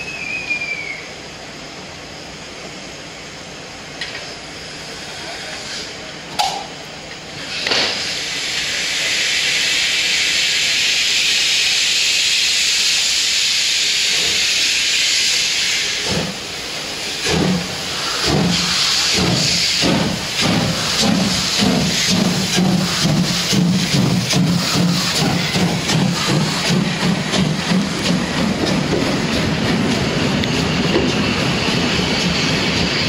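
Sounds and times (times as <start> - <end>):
steam locomotive chuffing: 0.0 - 33.0
steam hissing: 4.3 - 6.7, 7.3 - 33.0.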